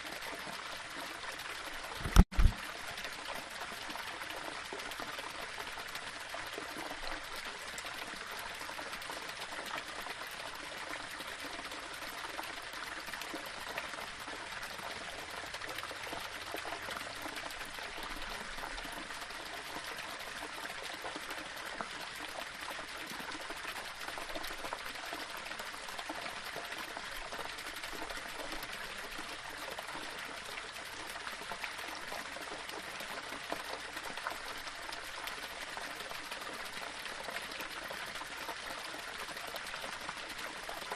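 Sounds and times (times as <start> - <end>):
waterfall trickling over stones: 0.0 - 40.9.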